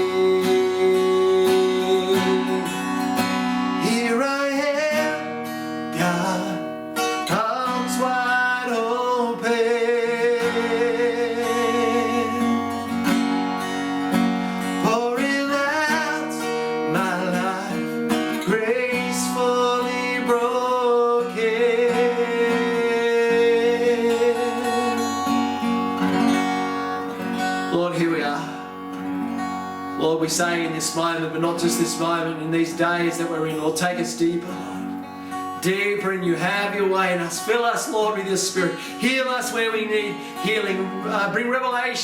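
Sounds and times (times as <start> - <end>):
person singing: 0.0 - 13.1, 14.8 - 25.6, 27.6 - 28.7, 30.0 - 42.0
acoustic guitar: 0.0 - 42.0.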